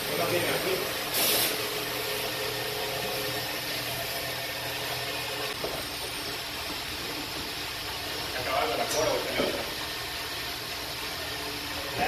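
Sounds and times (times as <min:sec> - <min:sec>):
high-pressure water spraying: 0:00.0 - 0:12.0.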